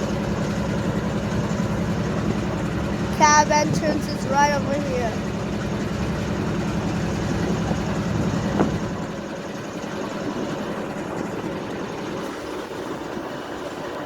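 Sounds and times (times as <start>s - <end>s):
diesel locomotive idling: 0.0s - 14.0s.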